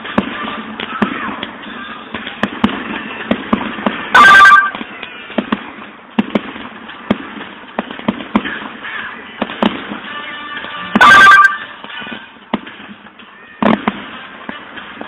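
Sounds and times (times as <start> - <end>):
fireworks bursting: 0.0 - 15.0
fireworks popping and crackling: 0.0 - 15.0.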